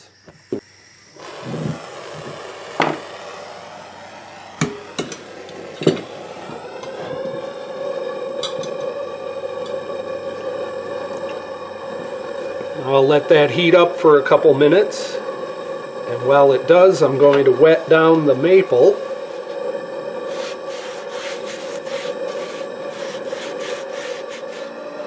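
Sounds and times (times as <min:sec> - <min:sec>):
steady flame hum: 0:00.0 - 0:25.0
torch flame hissing: 0:00.0 - 0:25.0.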